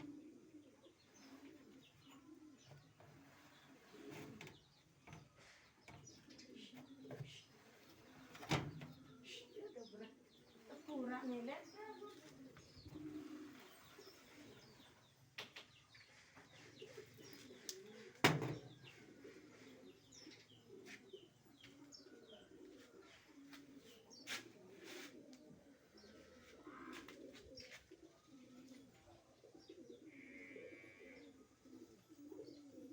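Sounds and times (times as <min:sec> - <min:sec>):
doves cooing: 0:00.0 - 0:32.9.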